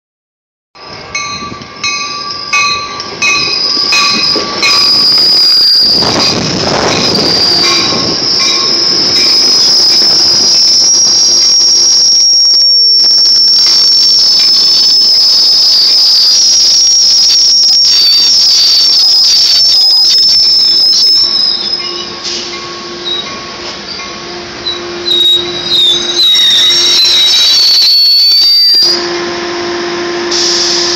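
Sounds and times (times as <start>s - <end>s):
train wheels and brakes squealing: 0.8s - 30.9s.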